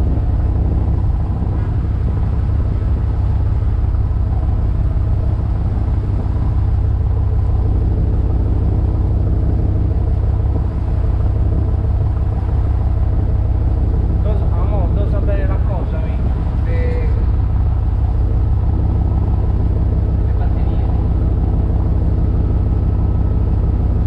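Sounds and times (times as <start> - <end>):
boat engine rumbling: 0.0 - 24.0.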